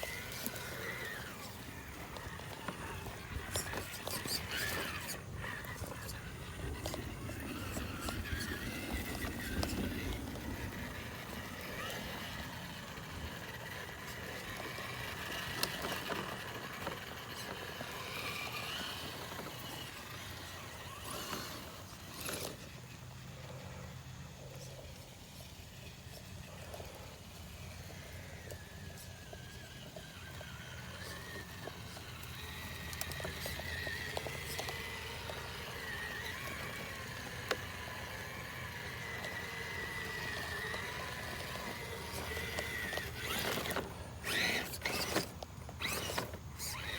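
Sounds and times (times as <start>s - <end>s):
toy car motor whining: 0.0s - 46.9s.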